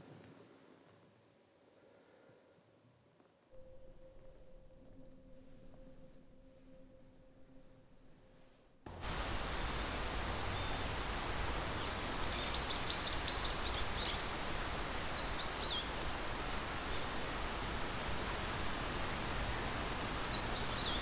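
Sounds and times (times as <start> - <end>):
steady outdoor hiss: 3.6 - 21.0.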